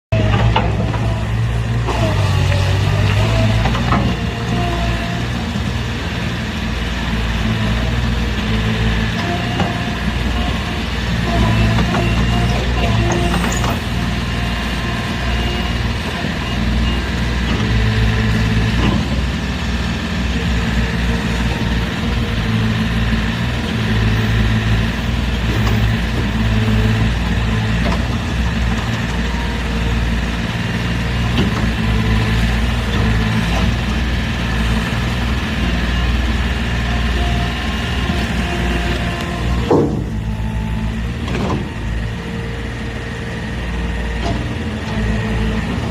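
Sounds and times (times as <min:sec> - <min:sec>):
heavy equipment engine idling: 0:00.1 - 0:45.9.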